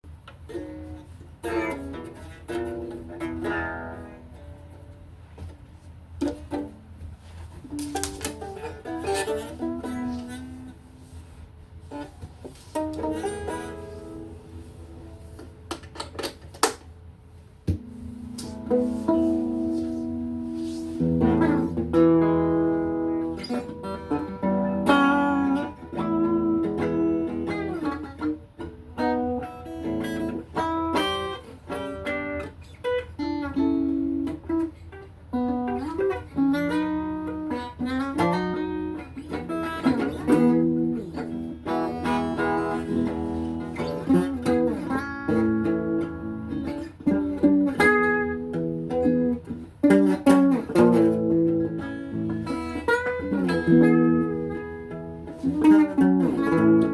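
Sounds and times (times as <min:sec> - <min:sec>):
guitar playing slow melody: 0:00.1 - 0:16.0, 0:17.0 - 0:56.9.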